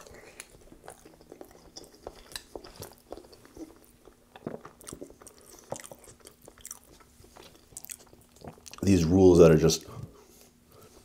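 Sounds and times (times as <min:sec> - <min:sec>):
person chewing: 0:00.0 - 0:08.8.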